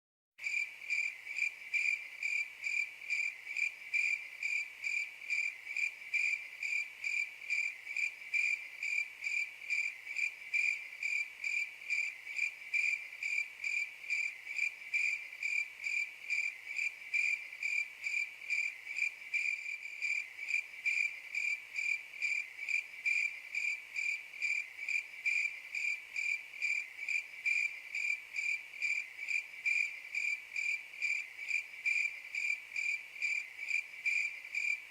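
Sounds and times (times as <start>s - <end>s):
cricket chirping: 0.4s - 34.9s.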